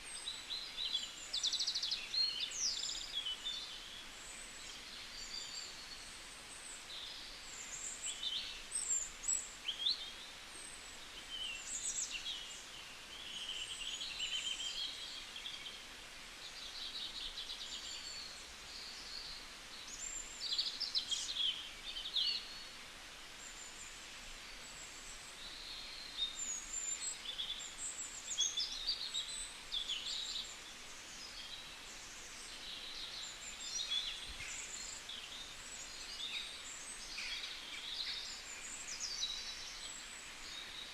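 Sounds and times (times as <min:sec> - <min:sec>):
background hiss: 0:00.0 - 0:40.9
small birds chirping: 0:00.0 - 0:40.9.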